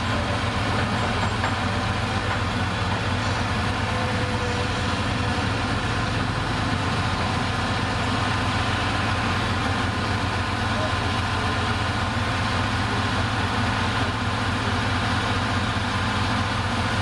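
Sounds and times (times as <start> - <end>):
bulldozer engine idling: 0.0 - 17.0.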